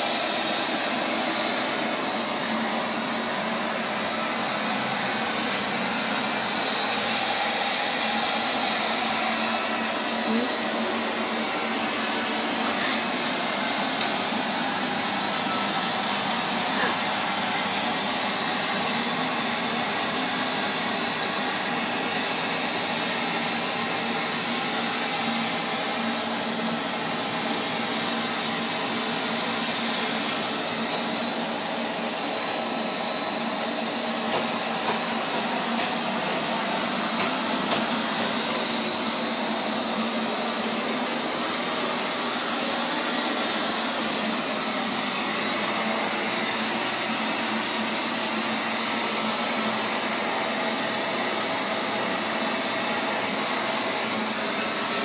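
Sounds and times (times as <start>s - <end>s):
robot vacuum cleaner running: 0.0s - 55.0s.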